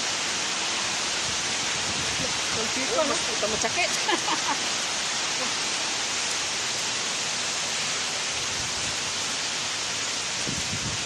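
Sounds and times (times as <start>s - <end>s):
hail and rain on paving: 0.0s - 11.0s.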